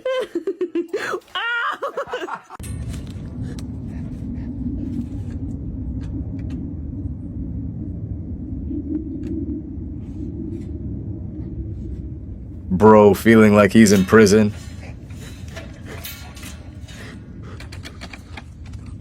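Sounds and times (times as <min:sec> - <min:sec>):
low rumble: 0:02.5 - 0:19.0.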